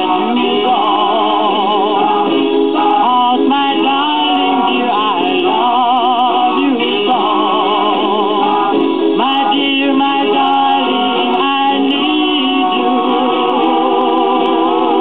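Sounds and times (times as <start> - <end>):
vocal group singing on old record: 0.0 - 15.0.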